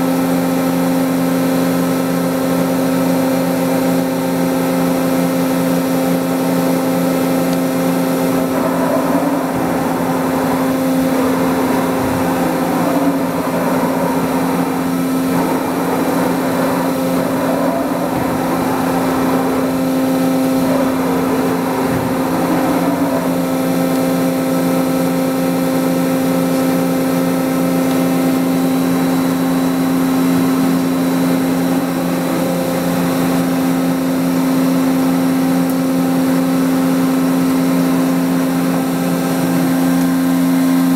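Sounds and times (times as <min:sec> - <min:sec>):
machine hum: 0:00.0 - 0:40.9
machine whine sliding in pitch: 0:00.1 - 0:40.9.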